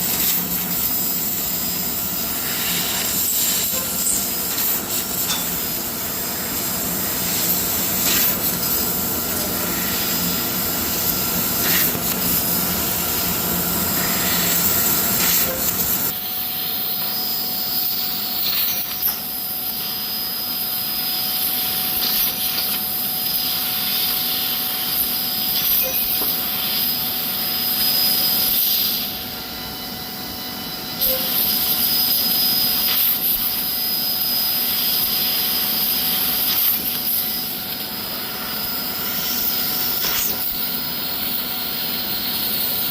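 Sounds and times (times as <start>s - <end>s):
metal-cutting machinery hissing: 0.0s - 42.9s.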